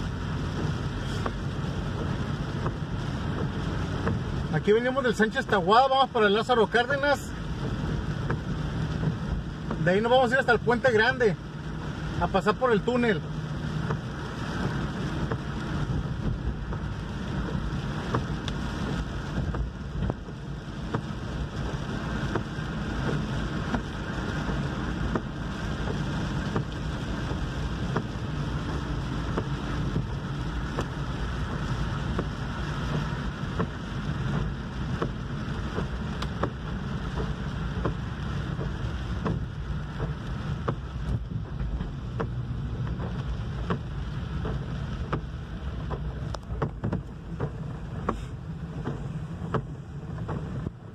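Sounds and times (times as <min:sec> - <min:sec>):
raindrops ticking: 0:00.0 - 0:50.9
road and tyre noise: 0:00.0 - 0:50.9.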